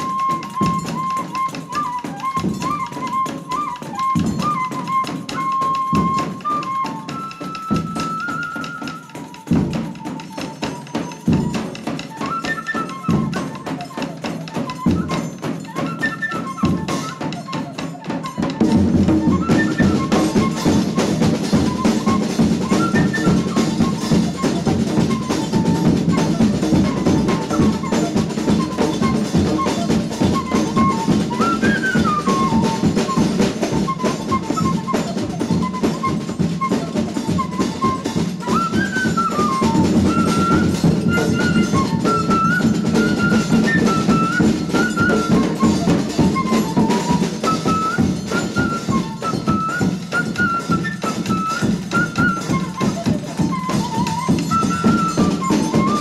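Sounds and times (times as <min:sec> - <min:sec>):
fife melody: 0:00.0 - 0:56.0
folk percussion ensemble: 0:00.0 - 0:56.0.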